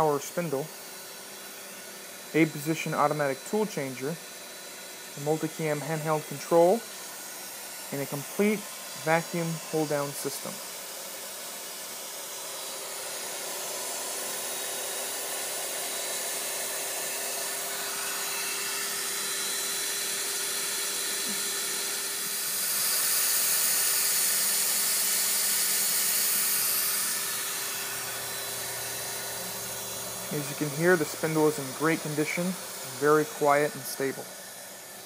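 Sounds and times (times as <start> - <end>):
router spindle whirring: 0.0 - 35.0.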